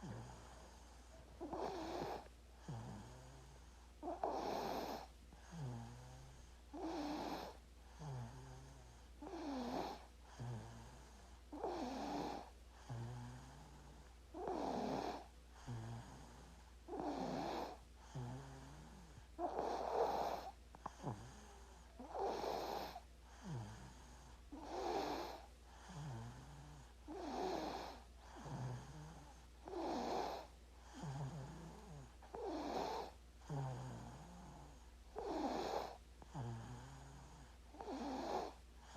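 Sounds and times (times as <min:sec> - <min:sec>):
baby snoring: 0:00.0 - 0:38.9
faint low hum: 0:00.0 - 0:38.9.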